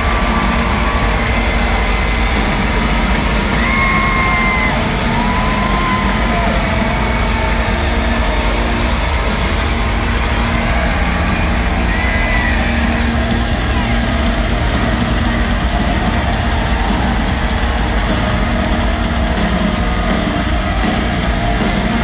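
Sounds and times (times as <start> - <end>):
crowd voices: 0.0 - 22.0
rock band playing loud: 0.0 - 22.0.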